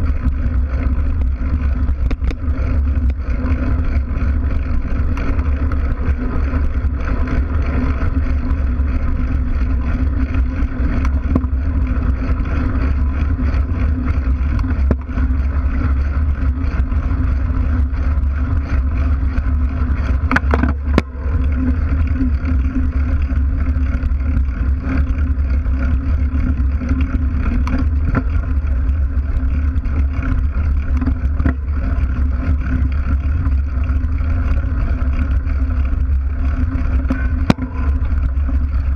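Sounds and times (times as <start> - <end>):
bike tyre rolling over gravel: 0.0 - 38.9
wind noise on microphone: 0.0 - 38.9.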